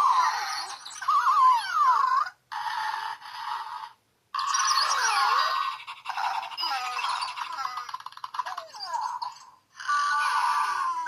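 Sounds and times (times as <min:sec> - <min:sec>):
toy electronic squeaks and chirps: 0:00.0 - 0:11.0.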